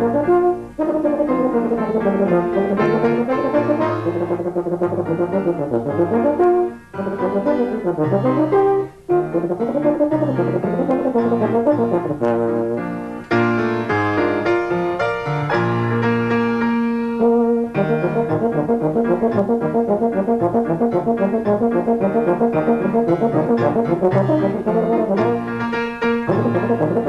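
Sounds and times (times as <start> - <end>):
euphonium solo: 0.0 - 14.0, 17.2 - 27.0
piano accompaniment: 0.0 - 27.0.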